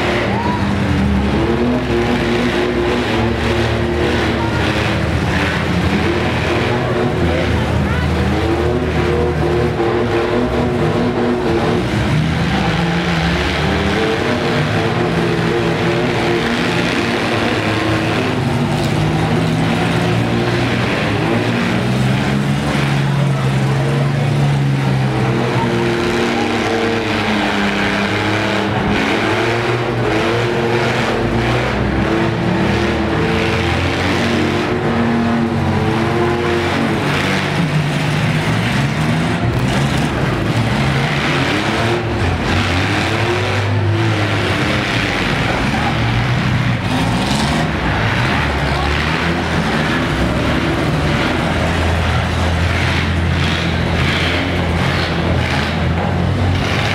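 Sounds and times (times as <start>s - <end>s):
truck engines revving hard: 0.0s - 56.9s.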